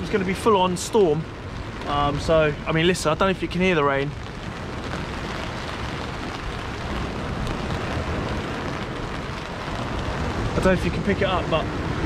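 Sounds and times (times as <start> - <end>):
heavy rain on fabric umbrella: 0.0 - 12.0
wind rumbling on microphone: 0.0 - 12.0.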